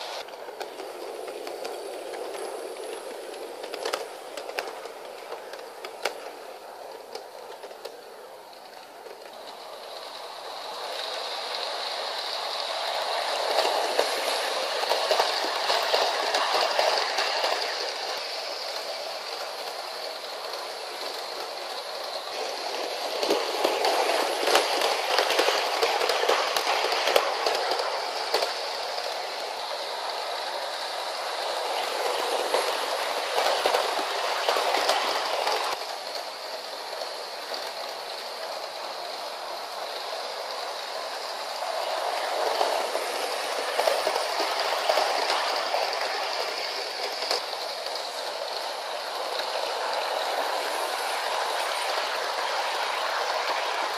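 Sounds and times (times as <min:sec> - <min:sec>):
model train rolling rattle: 0:00.0 - 0:53.9.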